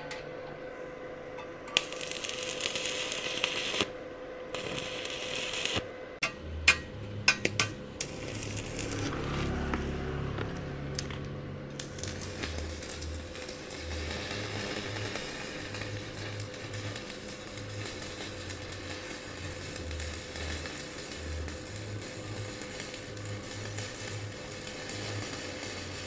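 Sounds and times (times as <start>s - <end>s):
welding arc crackling and hissing: 1.8s - 5.9s, 7.6s - 9.4s, 10.4s - 26.0s.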